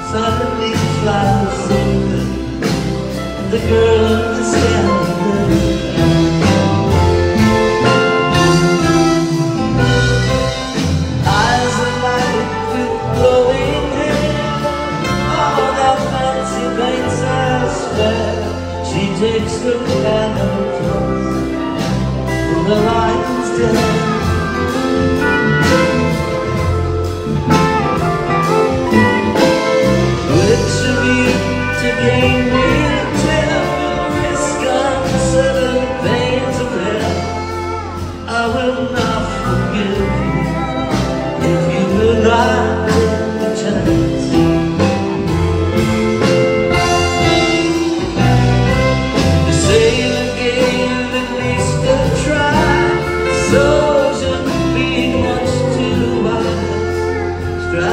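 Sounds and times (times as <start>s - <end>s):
acoustic guitar: 0.0s - 57.9s
electric bass: 0.0s - 57.9s.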